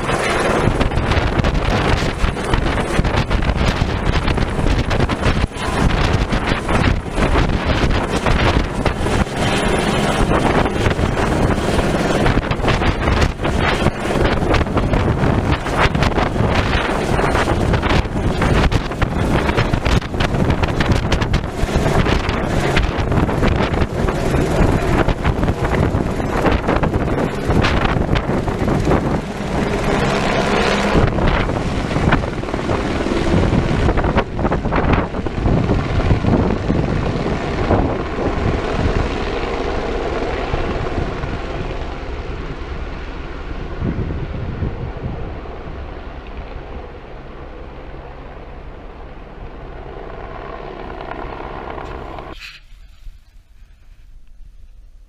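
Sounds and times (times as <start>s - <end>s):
helicopter rotor and engine: 0.0s - 52.6s.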